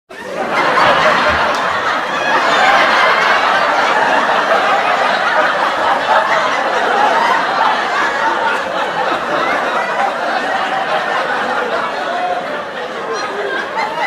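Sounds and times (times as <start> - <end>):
audience laughing: 0.1 - 14.0.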